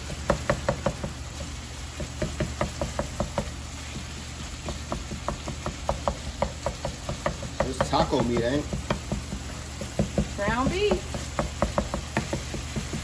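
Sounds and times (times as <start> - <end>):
meat sizzling: 0.0 - 13.0
wooden spatula knocking skillet: 0.0 - 13.0.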